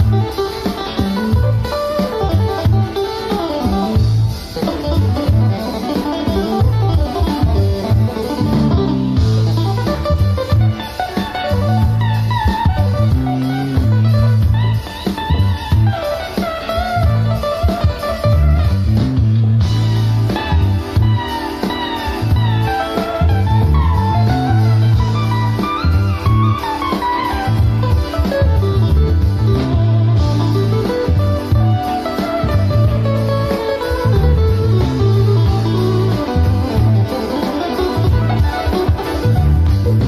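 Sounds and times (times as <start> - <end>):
lead line with pitch bends: 0.0 - 40.0
pulsing bass line: 1.1 - 3.0, 3.7 - 40.0.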